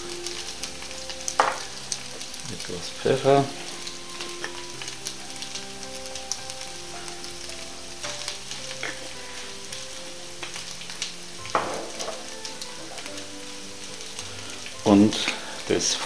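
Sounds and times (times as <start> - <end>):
potatoes sizzling in a pan: 0.0 - 16.0.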